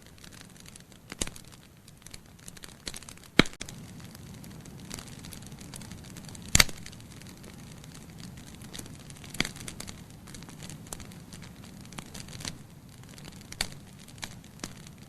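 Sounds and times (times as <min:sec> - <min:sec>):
burning logs crackling: 0:00.0 - 0:15.0
fire hissing: 0:00.0 - 0:15.0
loud sharp pops of fire: 0:00.0 - 0:15.0.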